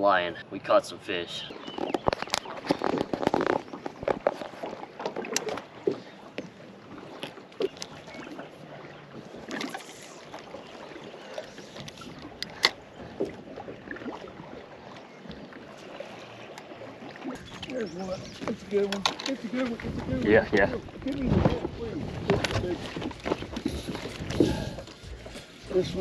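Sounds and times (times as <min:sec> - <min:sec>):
water: 0:00.0 - 0:26.0
wind: 0:00.0 - 0:26.0.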